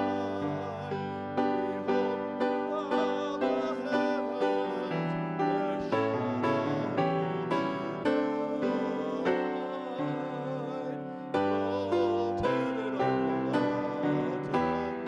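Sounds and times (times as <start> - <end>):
hymn piano music: 0.0 - 15.0.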